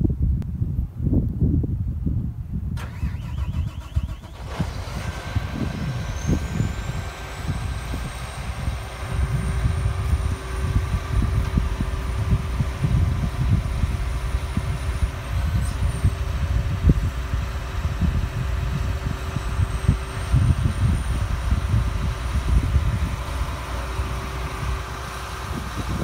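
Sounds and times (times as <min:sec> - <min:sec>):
wind buffeting microphone: 0:00.0 - 0:26.0
combine harvester engine running: 0:02.8 - 0:26.0
whining tones: 0:02.8 - 0:26.0.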